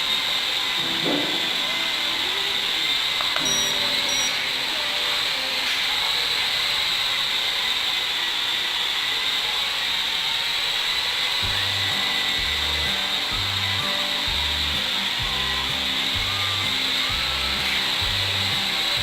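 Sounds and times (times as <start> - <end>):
propeller motor whirring: 0.0 - 19.0.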